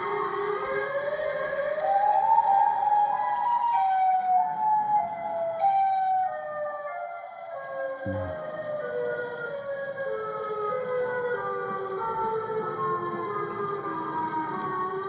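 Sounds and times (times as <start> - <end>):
emergency warning siren wailing: 0.0 - 15.0.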